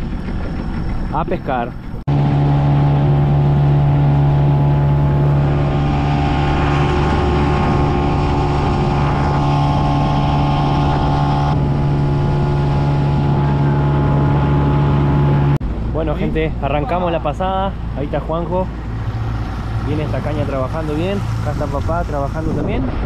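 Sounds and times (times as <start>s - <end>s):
outboard motor running: 0.0s - 23.0s
wind and water rushing: 0.0s - 23.0s.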